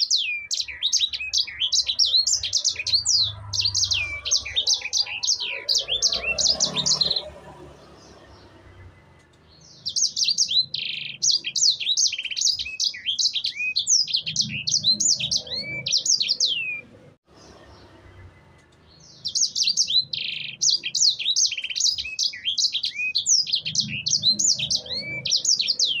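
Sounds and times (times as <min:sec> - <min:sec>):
bird singing rapid high chirps: 0:00.0 - 0:26.0.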